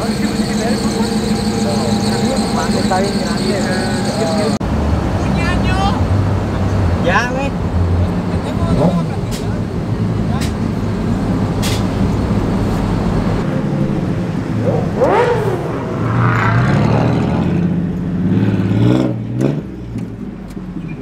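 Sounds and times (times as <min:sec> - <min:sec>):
engine revving: 0:00.0 - 0:05.5, 0:08.1 - 0:19.9
vehicle engine running: 0:00.0 - 0:18.8.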